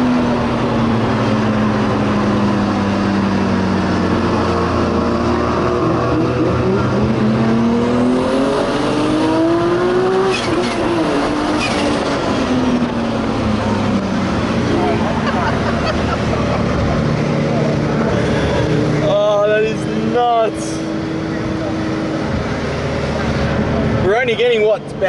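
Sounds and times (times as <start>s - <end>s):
turbocharged car engine accelerating: 0.0s - 25.0s.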